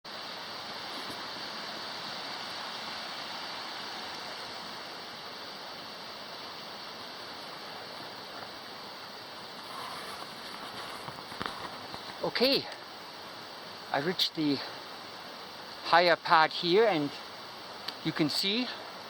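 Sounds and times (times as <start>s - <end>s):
stream water rushing: 0.1s - 19.0s.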